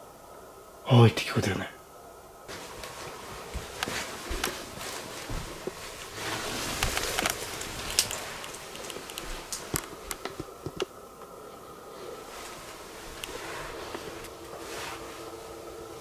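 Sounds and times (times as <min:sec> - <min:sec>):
rustling: 0:02.5 - 0:16.0
soft footsteps: 0:02.5 - 0:16.0.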